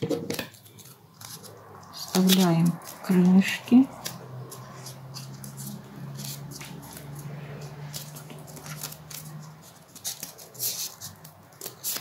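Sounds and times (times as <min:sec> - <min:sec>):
paper rustling: 0:00.0 - 0:12.0
scissors snipping paper: 0:00.5 - 0:12.0.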